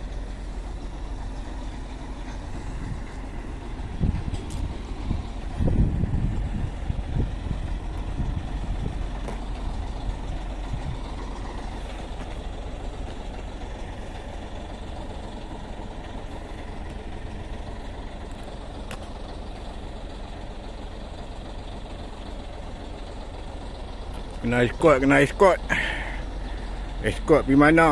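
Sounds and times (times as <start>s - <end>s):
truck diesel engine rumble: 0.0s - 27.9s.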